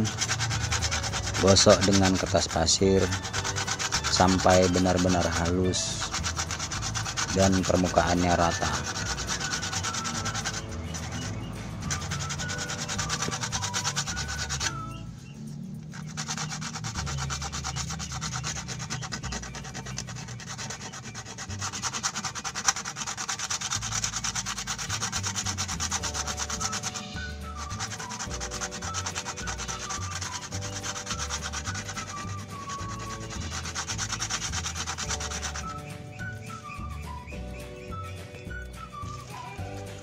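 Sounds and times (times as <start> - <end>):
sandpaper rubbing on plastic: 0.0 - 40.0.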